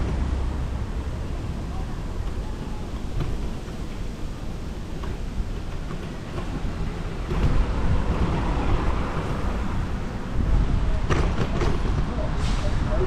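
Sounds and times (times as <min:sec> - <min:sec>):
road traffic noise: 0:00.0 - 0:13.0
wind rumbling on microphone: 0:00.0 - 0:13.0.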